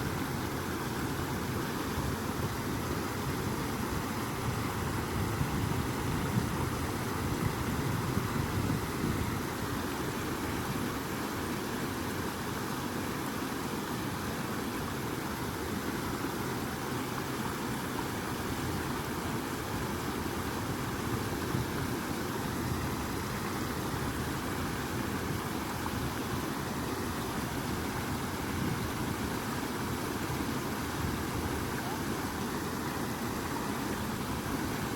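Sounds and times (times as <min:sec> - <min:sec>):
water rushing: 0:00.0 - 0:34.9.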